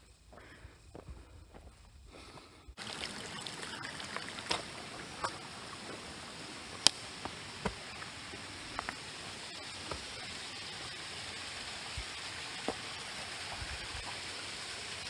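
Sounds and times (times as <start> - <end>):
running water rushing: 2.8 - 15.0.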